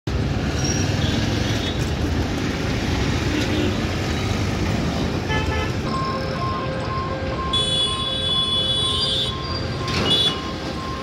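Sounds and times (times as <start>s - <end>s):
road traffic rumble: 0.1s - 11.0s.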